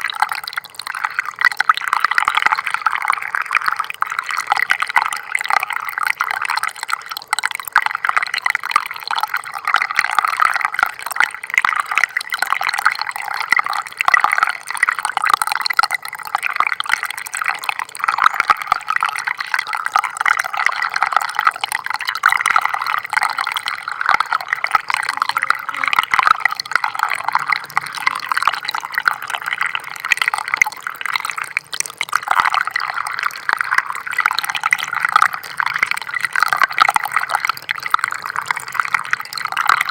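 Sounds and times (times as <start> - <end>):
little splashes and drips: 0.0 - 39.9
stream trickling: 0.0 - 39.9.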